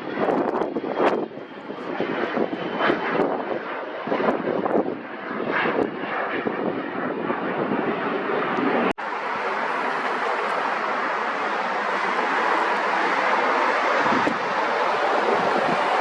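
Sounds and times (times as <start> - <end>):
aircraft engine noise: 0.0 - 16.0.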